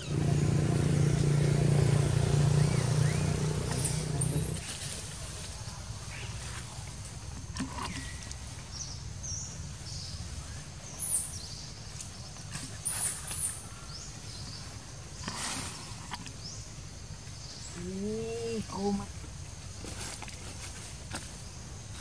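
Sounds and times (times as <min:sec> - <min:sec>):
rustling branches and leaves: 0:00.0 - 0:22.0.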